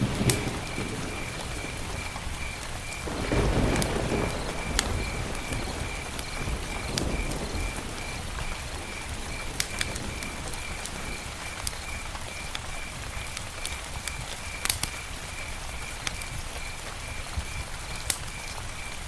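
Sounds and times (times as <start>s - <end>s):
campfire crackling and hissing: 0.0s - 19.0s.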